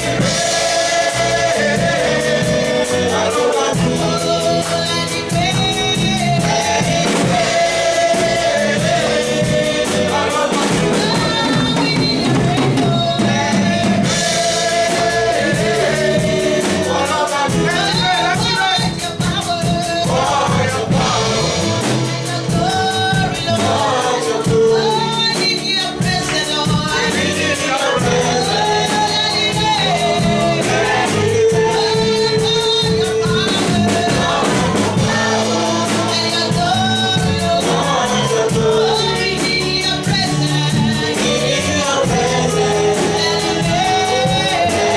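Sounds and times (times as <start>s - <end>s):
band playing steady beat: 0.0s - 44.9s
choir singing: 0.0s - 44.9s.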